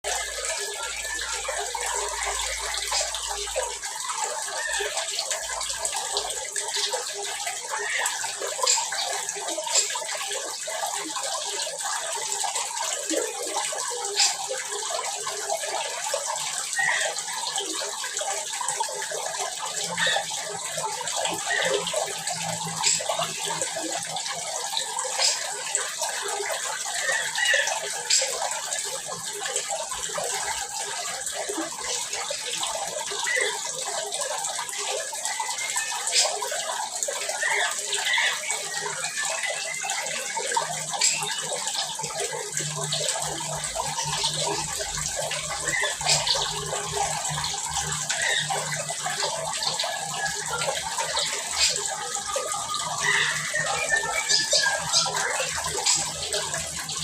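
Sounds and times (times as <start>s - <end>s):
small birds chirping and twittering: 0.1s - 57.0s.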